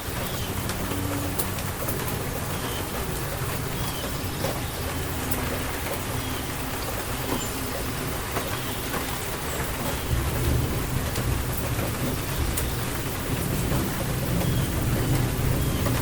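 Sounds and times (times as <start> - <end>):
distant thunder rumbling: 0.0 - 16.0
steady rain falling: 0.0 - 16.0.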